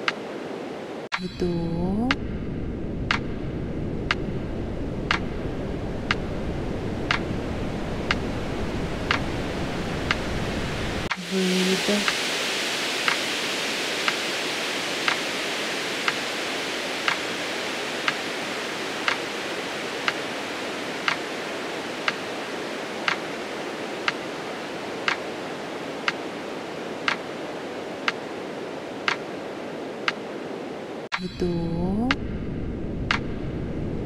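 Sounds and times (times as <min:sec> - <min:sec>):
steady hiss: 0:03.0 - 0:34.0.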